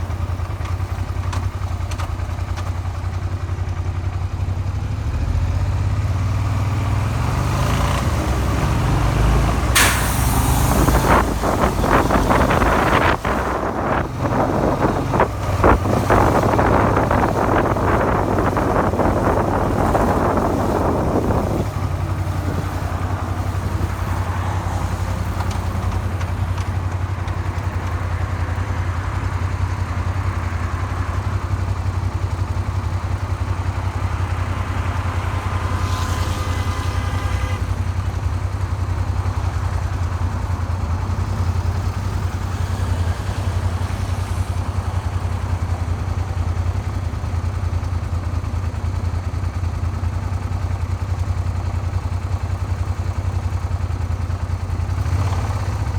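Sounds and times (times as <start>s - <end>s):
motorcycle engine idling: 0.0s - 10.0s, 10.7s - 55.9s.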